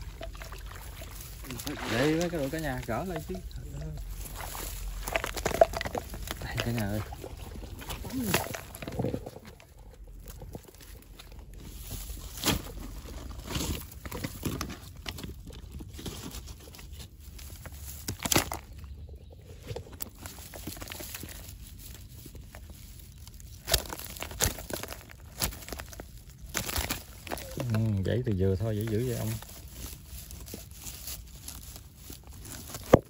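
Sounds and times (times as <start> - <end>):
rustling and crackling on dry grass: 0.0 - 33.0.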